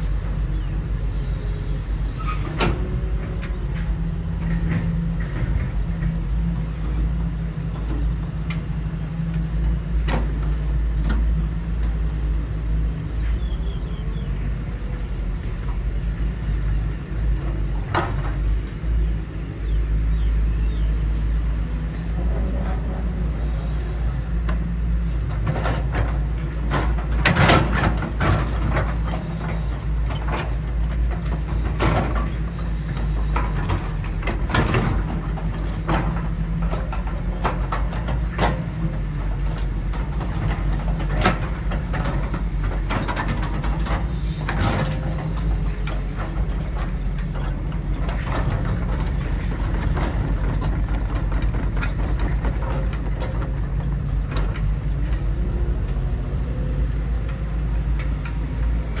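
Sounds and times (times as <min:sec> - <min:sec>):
low machine drone: 0:00.0 - 0:59.0.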